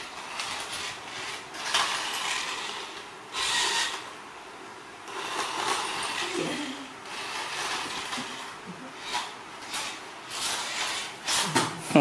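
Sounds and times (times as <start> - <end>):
toy car electric motor whirring: 0.0 - 4.2, 5.1 - 11.6.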